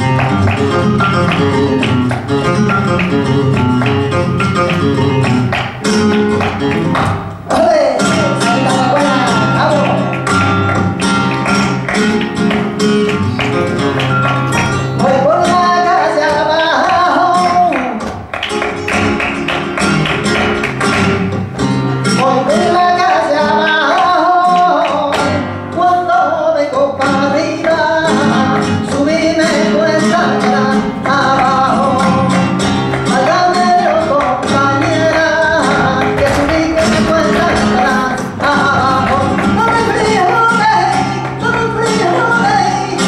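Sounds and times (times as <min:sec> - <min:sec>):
flamenco guitar with percussive strikes: 0:00.0 - 0:43.0.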